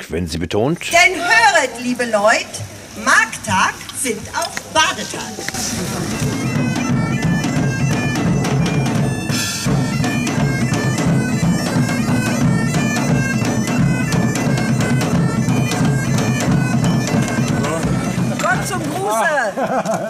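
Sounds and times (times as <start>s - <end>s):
bagpipes playing: 1.0s - 19.4s
drum beats: 2.5s - 20.0s.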